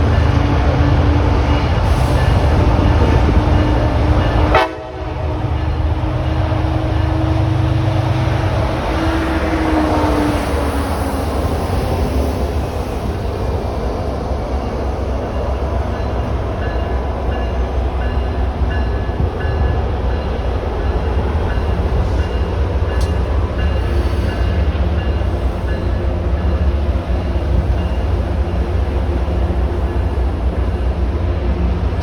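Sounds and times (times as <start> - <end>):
diesel locomotive rumbling: 0.0 - 32.0.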